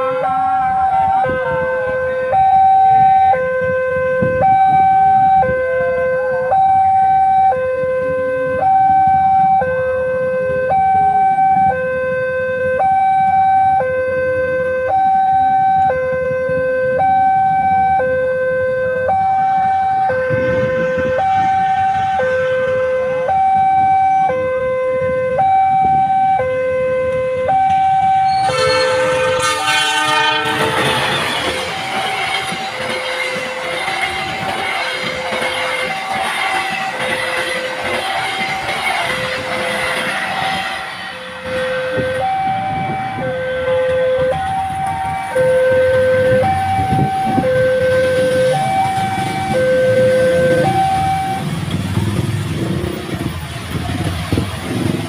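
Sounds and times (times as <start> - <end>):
level-crossing two-tone alarm: 0.0 - 51.8
diesel locomotive passing: 0.0 - 55.0.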